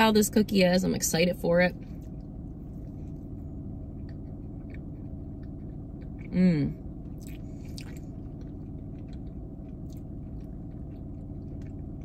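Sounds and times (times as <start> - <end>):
low background hum: 0.0 - 12.0
person chewing cookie: 1.7 - 12.0.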